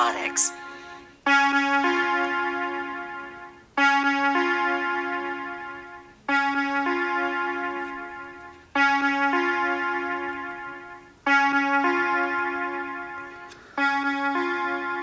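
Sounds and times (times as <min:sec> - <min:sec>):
two-note alarm chime: 0:00.0 - 0:15.0.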